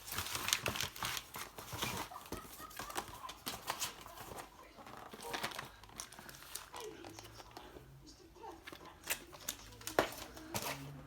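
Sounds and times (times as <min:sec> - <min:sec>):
packaging rustling: 0:00.0 - 0:07.9, 0:08.6 - 0:11.0.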